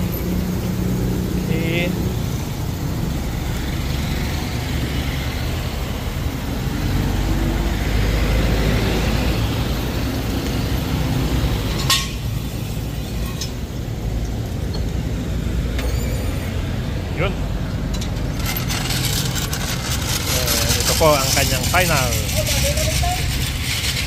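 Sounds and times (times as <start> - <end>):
motor vehicle rumble: 0.0 - 24.0.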